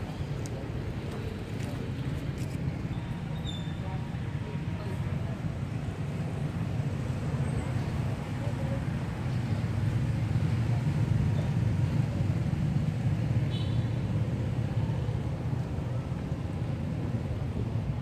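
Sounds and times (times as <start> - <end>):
low rumble of motor traffic: 0.0 - 18.0.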